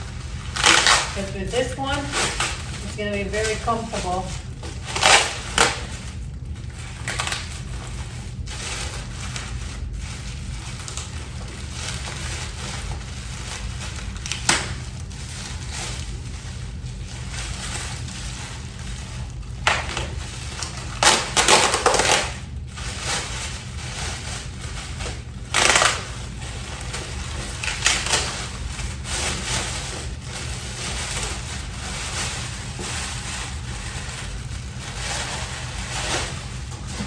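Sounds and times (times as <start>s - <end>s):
packaging crinkling and rustling: 0.0s - 37.0s
steady low hum: 0.0s - 37.0s.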